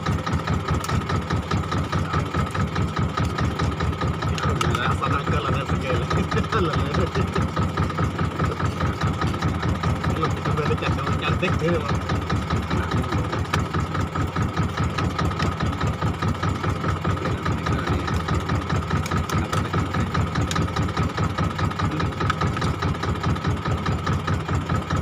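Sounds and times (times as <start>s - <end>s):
boat engine pulsing: 0.0s - 25.0s.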